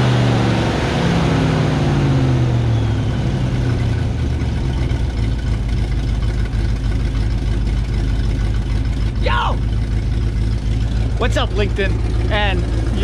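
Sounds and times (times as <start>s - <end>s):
truck engine idling: 1.4s - 13.0s.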